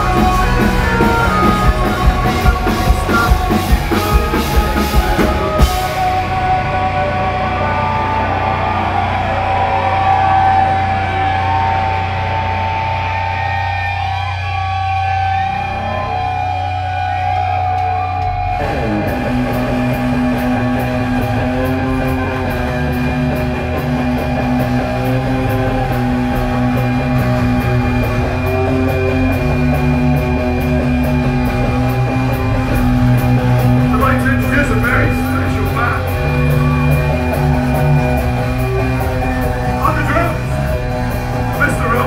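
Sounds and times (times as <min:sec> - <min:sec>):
rock band playing: 0:00.0 - 0:42.0.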